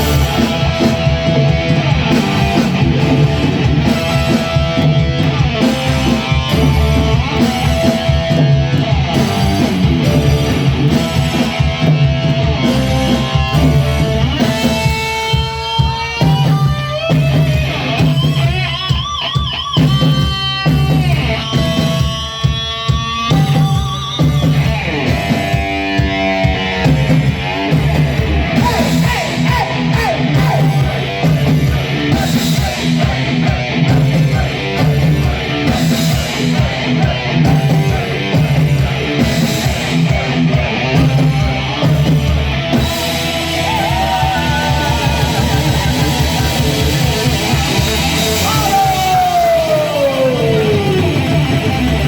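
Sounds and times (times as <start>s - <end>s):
bass guitar: 0.0s - 52.0s
distorted electric guitar lead: 0.0s - 52.0s
drum kit: 0.0s - 52.0s.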